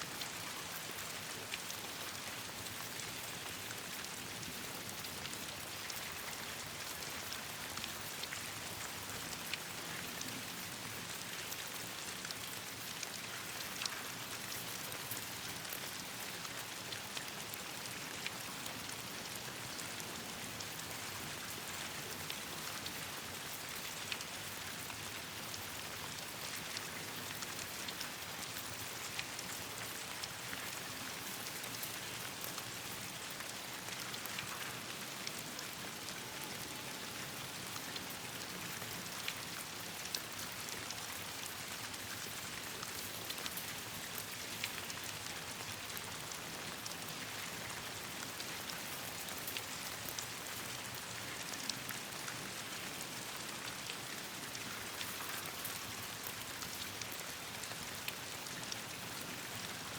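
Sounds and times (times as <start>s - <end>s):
rain on leaves: 0.0s - 59.9s.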